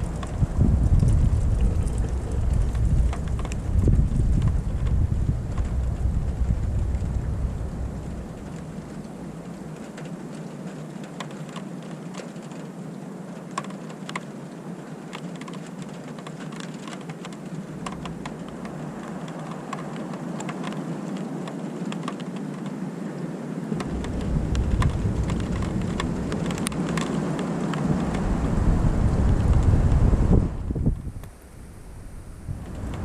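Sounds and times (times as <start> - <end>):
raindrops clicking on hard surface: 0.0 - 22.8, 23.7 - 31.5, 32.5 - 33.0
steady rain: 0.0 - 33.0.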